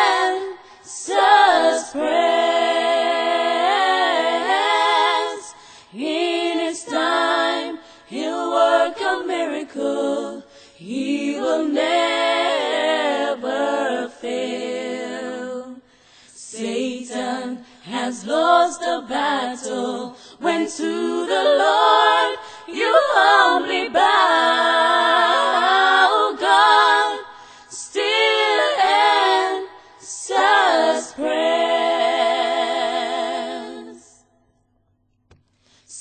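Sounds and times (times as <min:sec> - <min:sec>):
a cappella vocal group singing: 0:00.0 - 0:34.9, 0:35.6 - 0:36.0.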